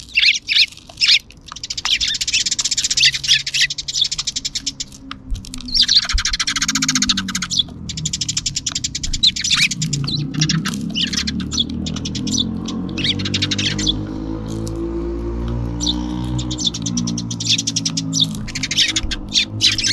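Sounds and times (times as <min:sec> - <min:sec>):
sparrows chirping and chattering: 0:00.0 - 0:19.9
low droning hum: 0:02.2 - 0:19.9.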